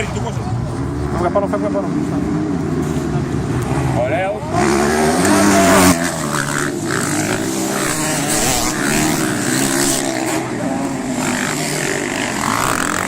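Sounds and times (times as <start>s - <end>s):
dirt bike engine revving: 1.0s - 13.0s.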